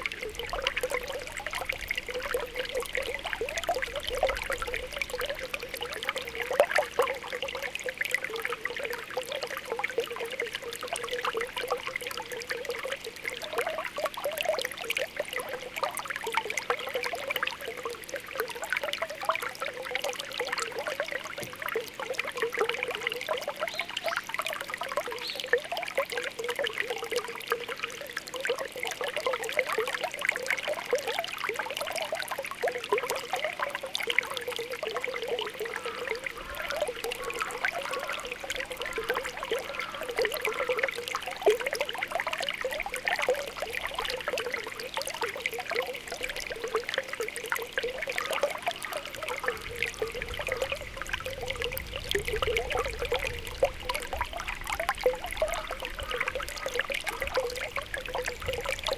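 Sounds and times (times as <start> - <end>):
spring water bubbling: 0.0 - 58.9.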